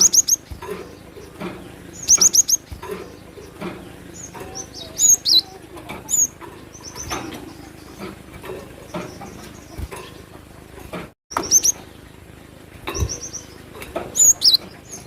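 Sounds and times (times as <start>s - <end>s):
bird chirping: 0.0s - 10.3s, 11.3s - 12.0s, 12.9s - 15.0s.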